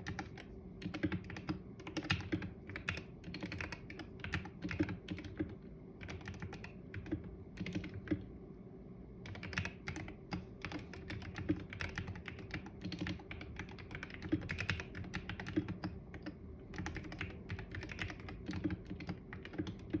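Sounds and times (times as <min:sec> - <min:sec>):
keyboard typing clicks: 0:00.0 - 0:08.2, 0:09.3 - 0:20.0
steady low hum: 0:00.0 - 0:20.0.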